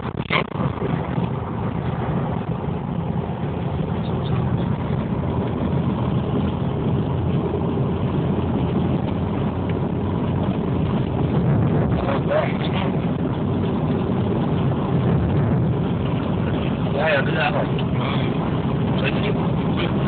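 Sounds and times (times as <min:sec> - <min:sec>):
strong wind buffeting microphone: 0:00.0 - 0:20.0.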